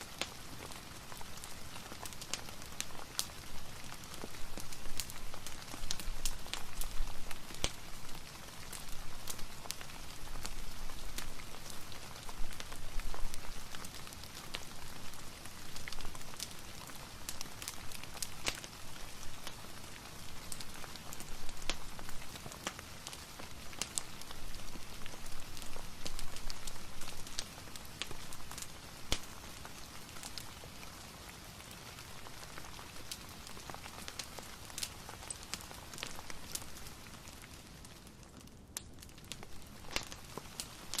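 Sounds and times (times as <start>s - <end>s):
fireplace fire crackling: 0.0s - 41.0s
steady rain hiss: 0.0s - 41.0s.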